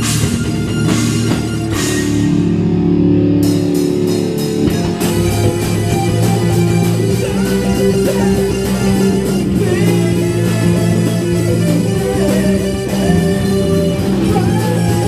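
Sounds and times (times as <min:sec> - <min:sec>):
metal band playing loudly: 0:00.0 - 0:15.0.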